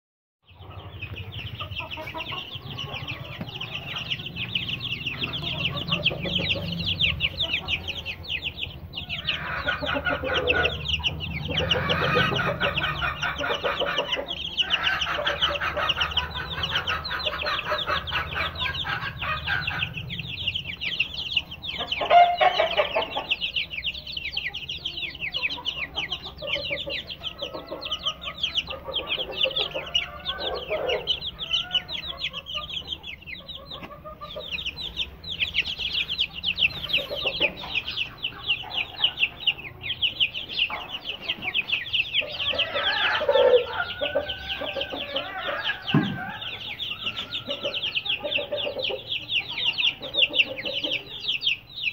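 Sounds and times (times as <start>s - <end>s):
chicks peeping: 0.4s - 51.9s
clucking calls: 0.5s - 51.9s.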